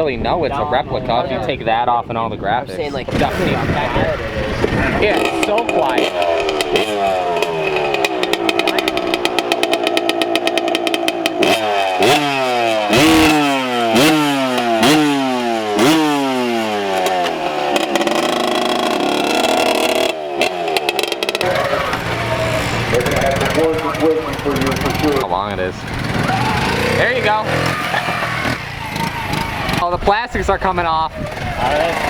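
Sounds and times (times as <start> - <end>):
engine throttle blips: 2.7 - 30.0
small motorbike engine idling: 3.1 - 29.9, 31.1 - 32.0.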